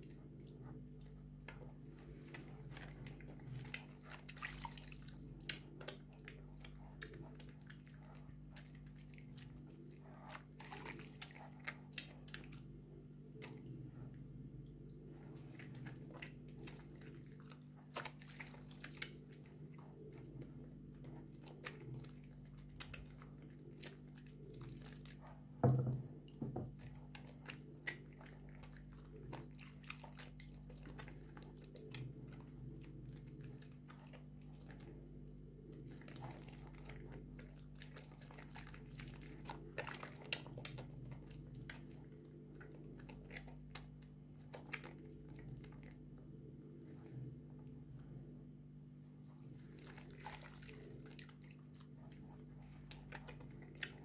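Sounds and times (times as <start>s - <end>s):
soap squelching between wet hands: 0.0s - 54.0s.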